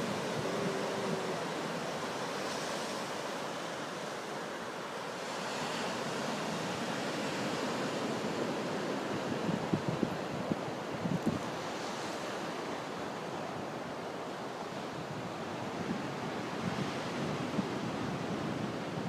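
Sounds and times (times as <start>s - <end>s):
ocean waves washing on beach: 0.0s - 19.0s.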